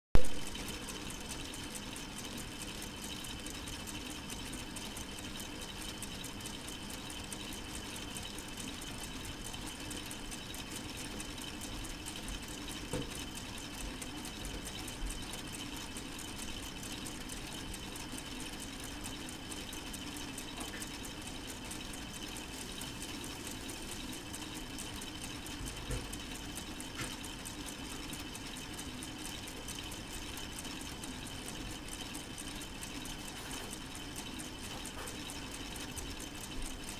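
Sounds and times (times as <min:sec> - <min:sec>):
whir of plastic gears: 0:00.2 - 0:36.9.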